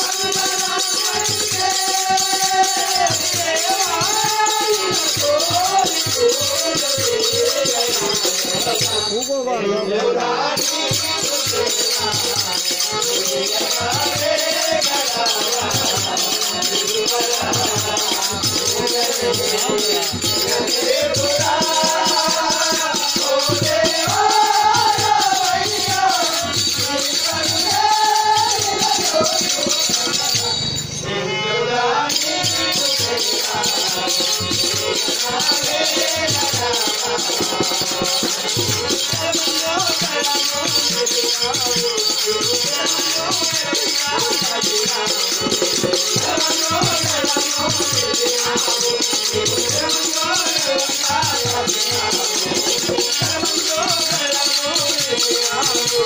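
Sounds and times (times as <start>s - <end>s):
hand percussion rhythm: 0.0s - 31.0s, 32.0s - 56.0s
devotional singing: 0.0s - 56.0s.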